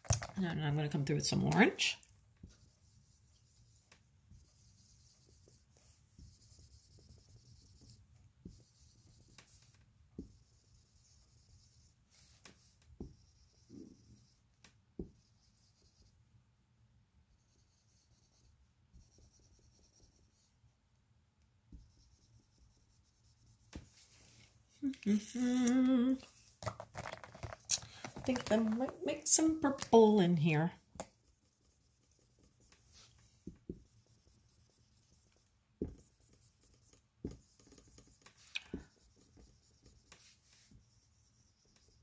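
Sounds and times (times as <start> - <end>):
marker scribbling on whiteboard: 1.5 - 16.2, 17.3 - 20.7, 21.7 - 24.6, 26.3 - 42.0.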